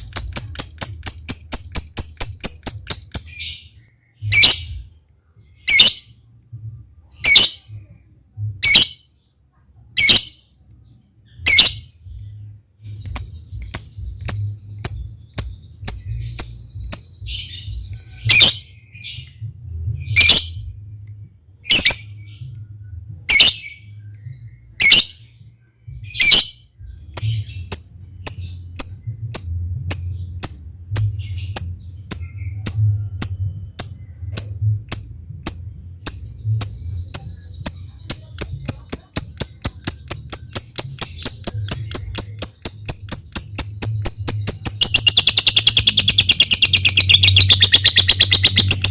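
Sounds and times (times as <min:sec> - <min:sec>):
rapid bird chirps: 0:00.0 - 0:06.2, 0:10.0 - 0:20.7, 0:26.0 - 0:48.9.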